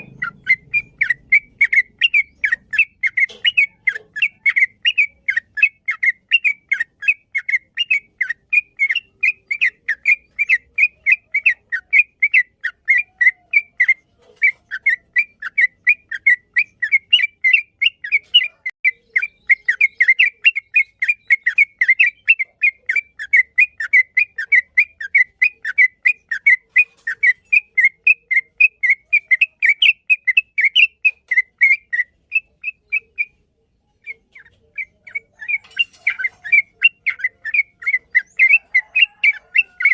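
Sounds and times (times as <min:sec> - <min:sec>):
bird whistled song: 0:00.0 - 0:39.9.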